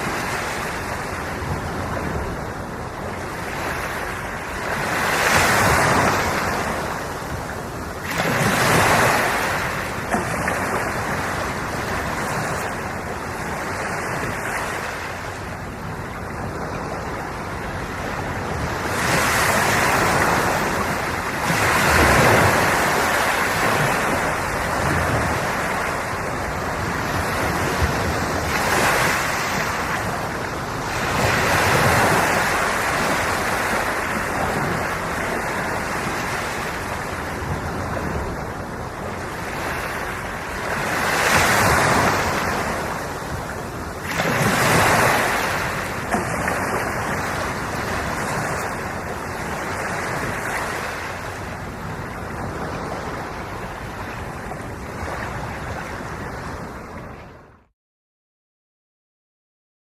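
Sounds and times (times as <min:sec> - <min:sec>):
waves breaking on shore: 0:00.0 - 0:57.7.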